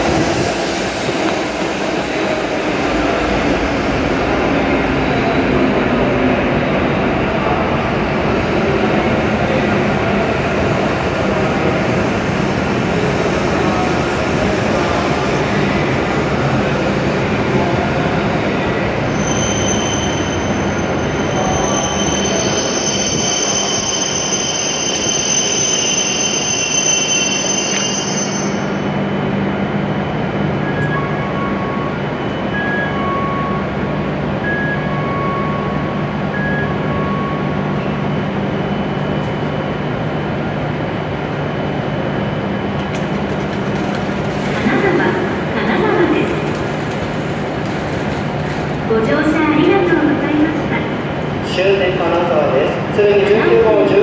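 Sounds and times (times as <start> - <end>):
train rushing noise: 0.0 - 54.0.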